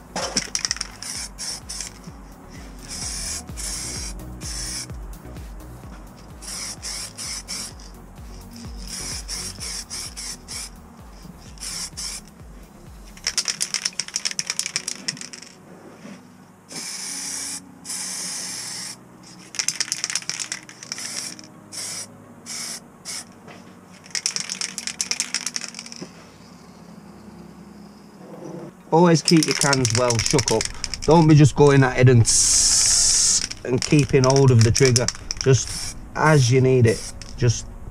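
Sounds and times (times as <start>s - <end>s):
spray paint can spraying: 0.1s - 12.4s, 13.0s - 15.6s, 16.7s - 23.3s, 23.9s - 26.1s, 29.2s - 37.6s.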